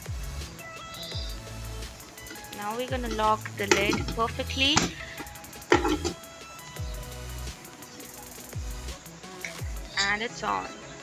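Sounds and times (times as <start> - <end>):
electronic music with kick drum: 0.0 - 10.2.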